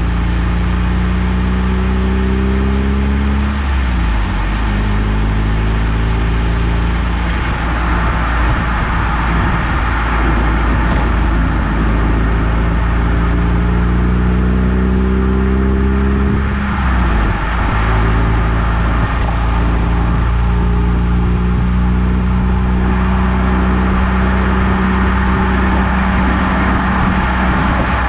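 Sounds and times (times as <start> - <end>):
car engine accelerating: 0.0 - 28.0
road and tyre noise: 0.0 - 28.0.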